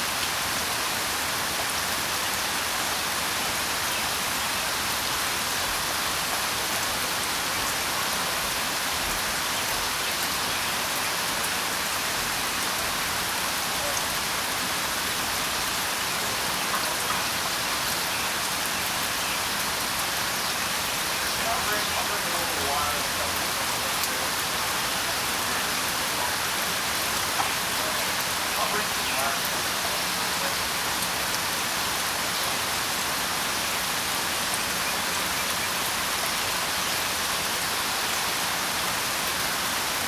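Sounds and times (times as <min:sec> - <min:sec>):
dense rain falling: 0:00.0 - 0:40.0.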